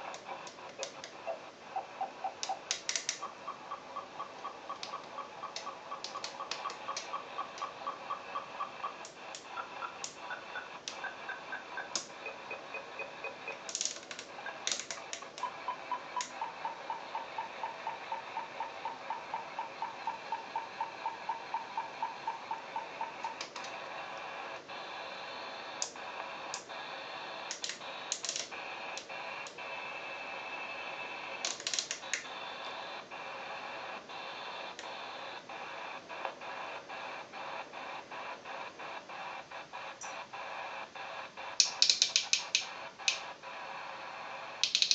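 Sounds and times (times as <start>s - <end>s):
buzzing hiss: 0.0s - 44.9s
sharp clicks: 0.0s - 44.9s.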